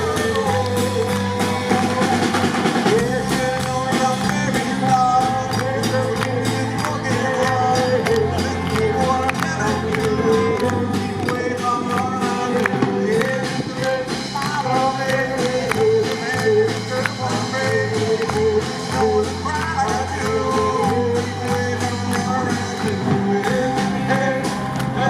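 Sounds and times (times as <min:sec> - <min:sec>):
drum beat: 0:00.0 - 0:25.0
live rock band playing: 0:00.0 - 0:25.0.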